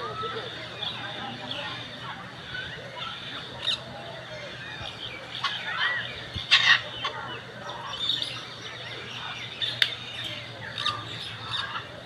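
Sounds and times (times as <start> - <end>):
parrots calling: 0.0 - 12.0.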